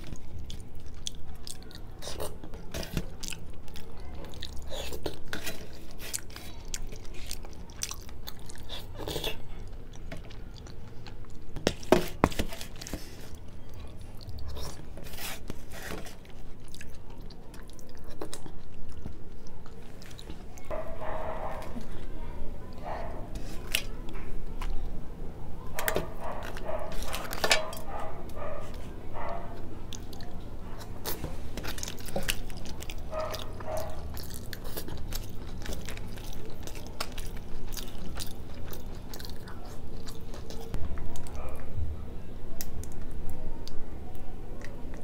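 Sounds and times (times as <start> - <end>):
person chewing: 0.0 - 22.0, 22.7 - 24.8, 25.8 - 41.6.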